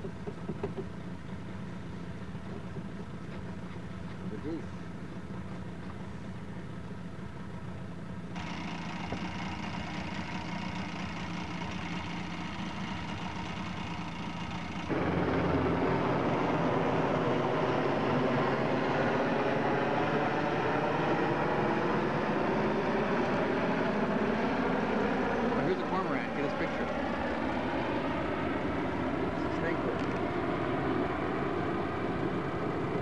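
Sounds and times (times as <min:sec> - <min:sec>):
boat motor humming: 0:00.0 - 0:33.0.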